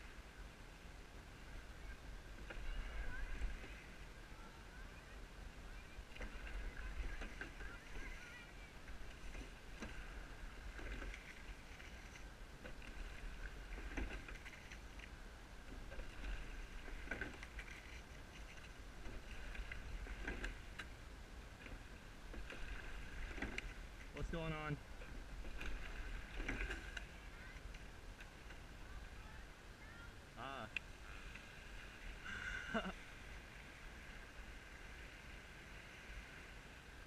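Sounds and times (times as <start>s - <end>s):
oars splashing in water: 1.2s - 29.3s, 30.8s - 36.8s.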